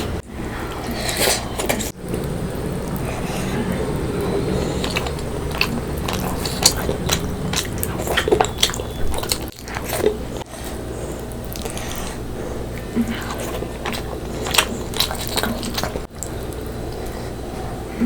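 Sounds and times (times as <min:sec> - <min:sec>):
person chewing food: 0:00.0 - 0:17.8
steady low hum: 0:00.0 - 0:18.0.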